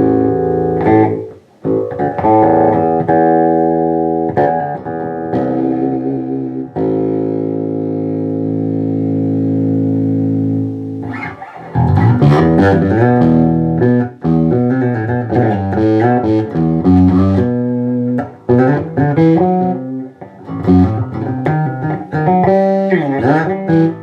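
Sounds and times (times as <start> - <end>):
electric bass notes: 0.0 - 24.0.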